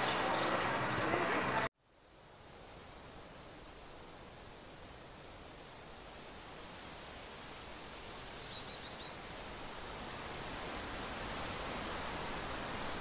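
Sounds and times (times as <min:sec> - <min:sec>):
faint rural hiss: 0:00.0 - 0:13.0.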